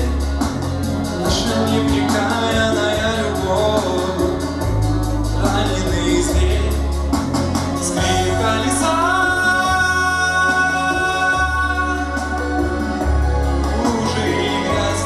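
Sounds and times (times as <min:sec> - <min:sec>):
instrumental backing with bass line: 0:00.0 - 0:15.0
person singing: 0:00.0 - 0:15.0.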